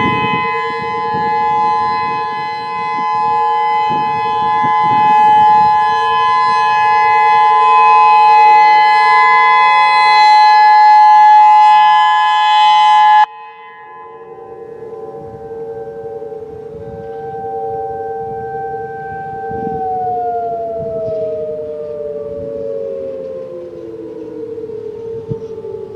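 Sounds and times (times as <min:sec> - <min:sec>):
distant tornado sirens: 0:00.0 - 0:25.9
outdoor warning siren steady tone: 0:00.0 - 0:25.9.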